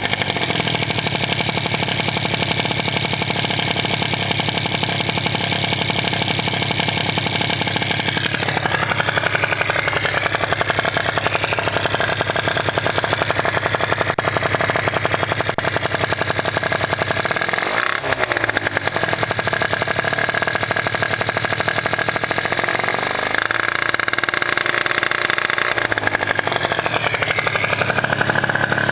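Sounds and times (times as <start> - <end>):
two-stroke scooter engine: 0.0 - 28.9.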